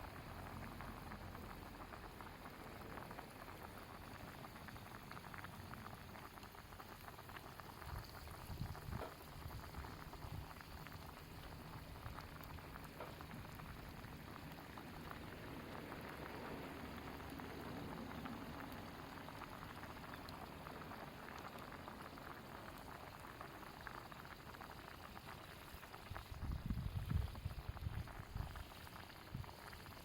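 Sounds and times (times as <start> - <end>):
food bubbling and crackling: 0.0 - 30.0.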